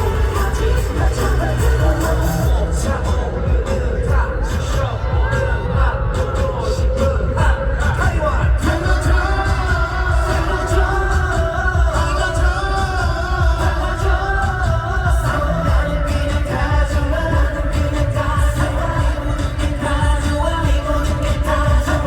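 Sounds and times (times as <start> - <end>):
male group vocals singing: 0.0 - 22.0
pop backing track with bass beat: 0.0 - 22.0.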